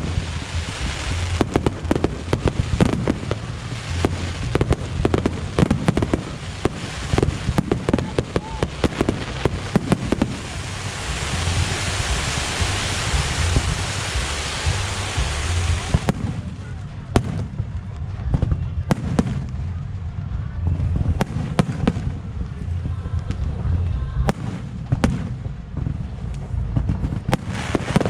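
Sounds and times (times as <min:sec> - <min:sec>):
fireworks crackling hiss: 0:00.0 - 0:20.2, 0:20.8 - 0:28.0
fireworks bursting: 0:00.0 - 0:28.0.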